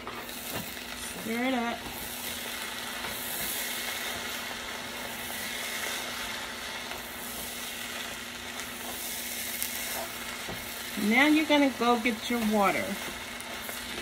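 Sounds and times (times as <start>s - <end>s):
meat and rice sizzling in pan: 0.0s - 14.0s.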